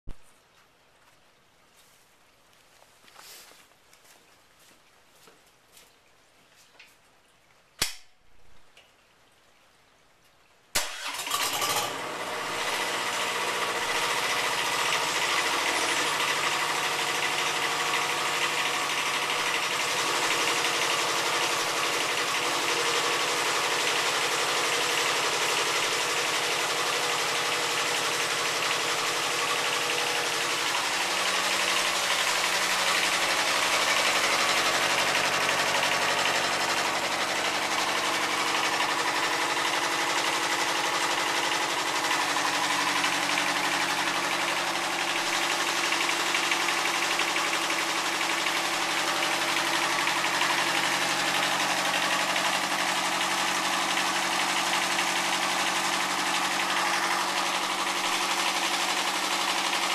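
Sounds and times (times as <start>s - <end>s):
diesel engine starting and idling: 10.8s - 59.9s.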